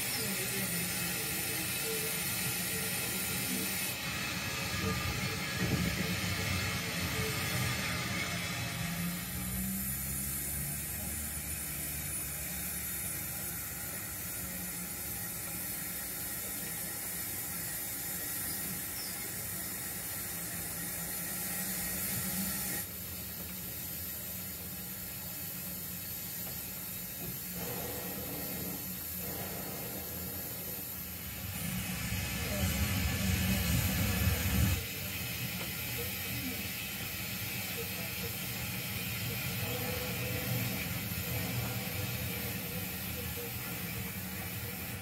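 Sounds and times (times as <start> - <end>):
model train rattle and whir: 0.0 - 45.0
steam hiss: 0.0 - 45.0.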